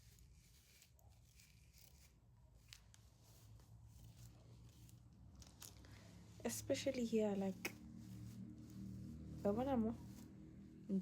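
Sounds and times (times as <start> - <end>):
low background hum: 0.2 - 11.0.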